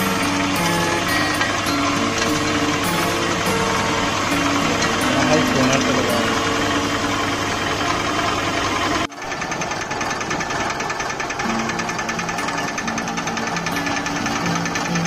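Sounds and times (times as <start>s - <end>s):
vibrating sieve deck rattling: 0.0s - 15.0s.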